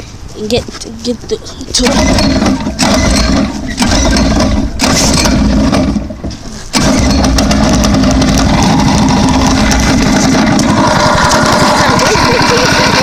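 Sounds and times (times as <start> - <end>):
dirt bike engine starting and running: 1.8 - 13.0.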